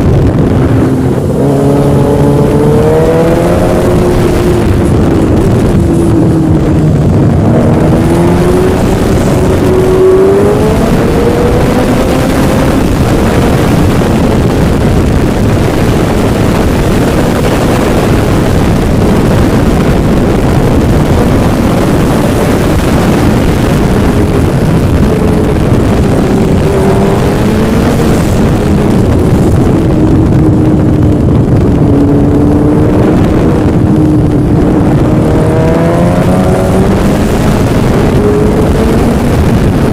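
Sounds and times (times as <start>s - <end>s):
engine revving: 0.0s - 39.9s
heavy rushing noise: 0.0s - 39.9s.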